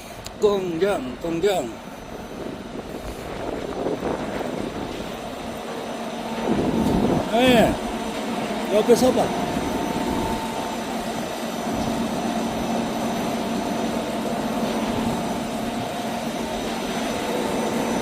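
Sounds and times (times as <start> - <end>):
heavy machinery engine drone: 0.0 - 18.0.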